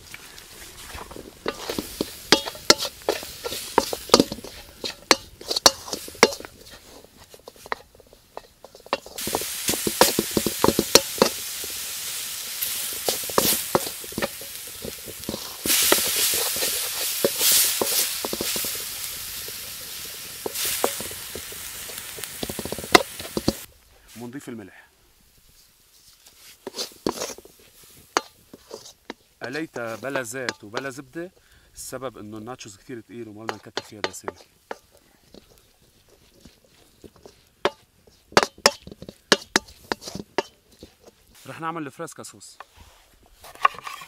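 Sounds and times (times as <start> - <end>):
wooden spoon scraping a wok: 0.0 - 24.3, 25.2 - 32.1, 33.0 - 41.7, 42.5 - 44.0
meat sizzling: 0.0 - 24.4, 25.1 - 41.6.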